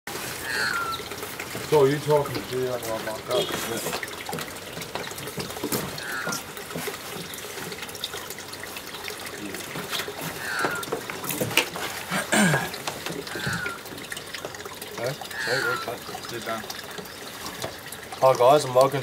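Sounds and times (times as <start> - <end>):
water trickling and lapping: 0.1 - 19.0.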